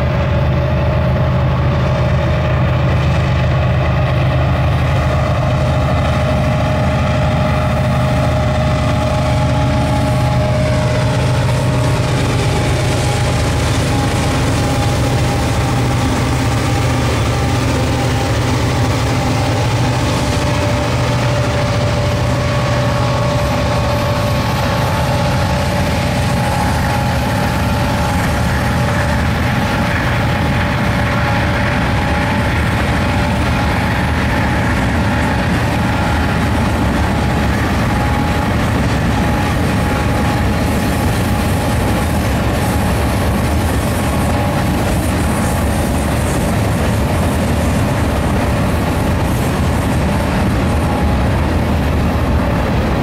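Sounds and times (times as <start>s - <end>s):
diesel locomotive engine drone: 0.0s - 53.0s
freight cars rolling on rails: 0.0s - 53.0s.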